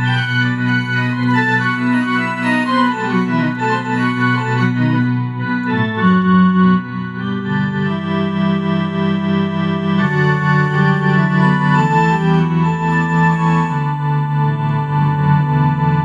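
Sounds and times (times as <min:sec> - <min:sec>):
electronic keyboard organ melody: 0:00.0 - 0:16.0.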